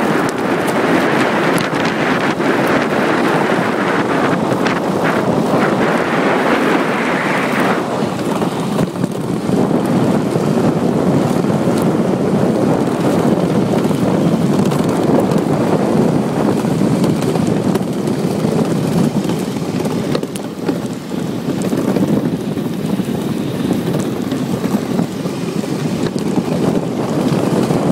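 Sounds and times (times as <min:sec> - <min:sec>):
runners on ice: 0:00.0 - 0:27.9
wind buffeting microphone: 0:00.0 - 0:27.9.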